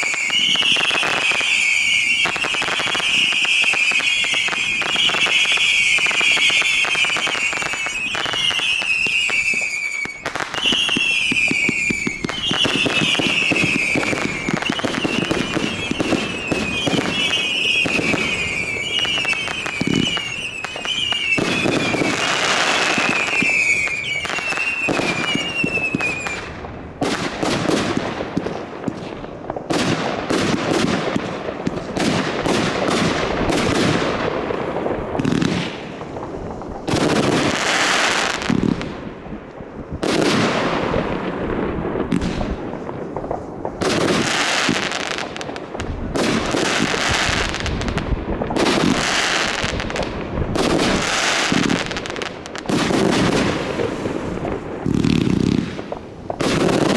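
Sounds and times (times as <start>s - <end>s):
fireworks bangs and crackling: 0.0s - 56.9s
fireworks whistling: 0.0s - 56.9s.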